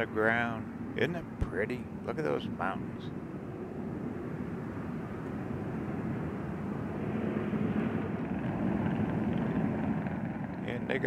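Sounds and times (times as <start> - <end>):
freeway traffic rumble: 0.0 - 11.0.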